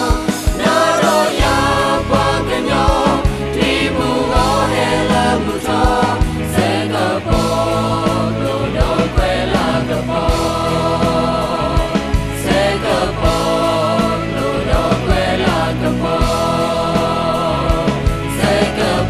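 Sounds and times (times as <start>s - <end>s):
group of singers singing: 0.0s - 19.0s
live pop band: 0.0s - 19.0s
steady drum beat: 0.0s - 19.0s.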